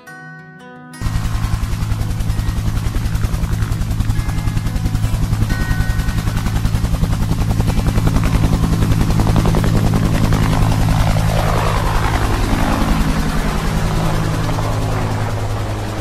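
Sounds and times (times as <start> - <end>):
helicopter engine hum: 1.0 - 16.0
helicopter rotor beating: 1.0 - 16.0.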